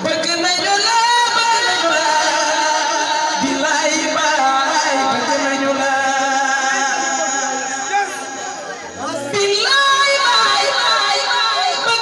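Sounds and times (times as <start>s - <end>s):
woman singing into microphone: 0.0s - 7.4s, 9.0s - 12.0s.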